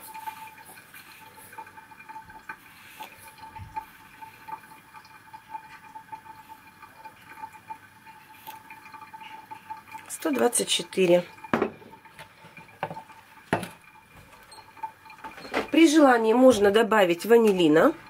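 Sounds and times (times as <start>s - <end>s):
sugar trickling: 0.0s - 18.0s.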